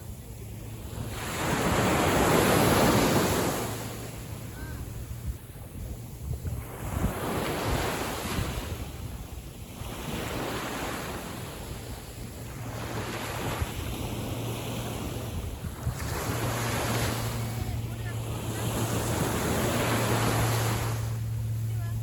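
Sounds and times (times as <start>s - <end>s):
small waves washing in: 0.0s - 22.0s
wind rumbling on microphone: 0.0s - 22.0s.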